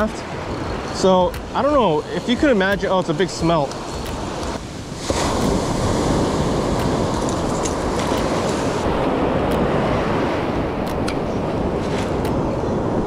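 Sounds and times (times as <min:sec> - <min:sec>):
ocean surf breaking: 0:00.0 - 0:13.0
wind rumbling on microphone: 0:00.0 - 0:13.0.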